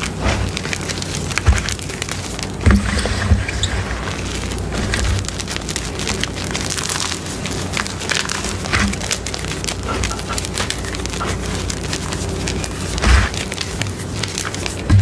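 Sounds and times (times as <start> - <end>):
chalk crunching by hand: 0.0 - 15.0
powdery rustling: 0.0 - 15.0.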